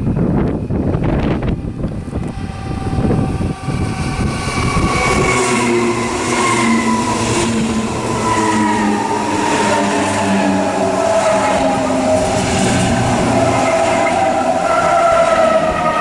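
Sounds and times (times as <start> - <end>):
electric train drive whine: 0.0 - 16.0
train rushing noise: 0.0 - 16.0.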